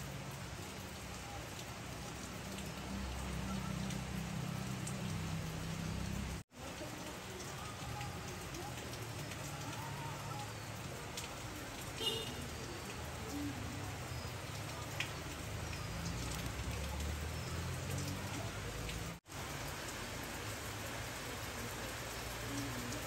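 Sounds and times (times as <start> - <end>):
rain splashing on wet ground: 0.0 - 23.0.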